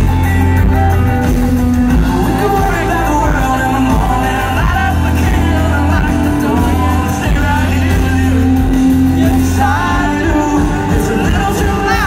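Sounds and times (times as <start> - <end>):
live rock band playing: 0.0 - 12.0
man singing lead vocal: 1.3 - 12.0.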